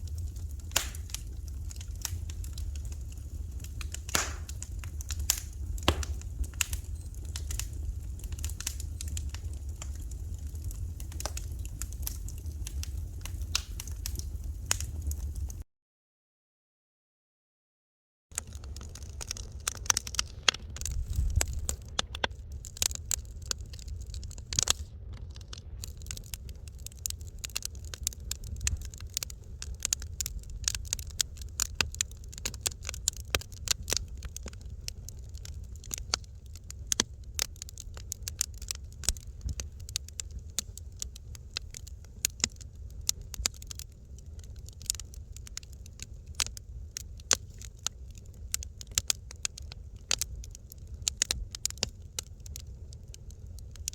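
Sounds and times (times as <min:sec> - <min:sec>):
flames rumbling: 0:00.0 - 0:15.6, 0:18.3 - 0:53.9
wood fire crackling: 0:00.0 - 0:15.6, 0:18.3 - 0:53.9.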